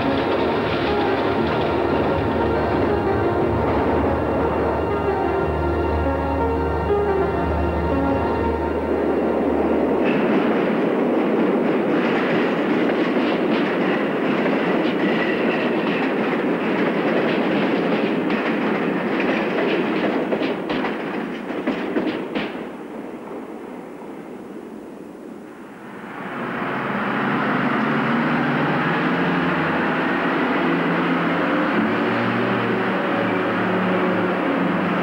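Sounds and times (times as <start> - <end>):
rail clicks: 0.0 - 35.0
train rumbling in tunnel: 0.0 - 35.0.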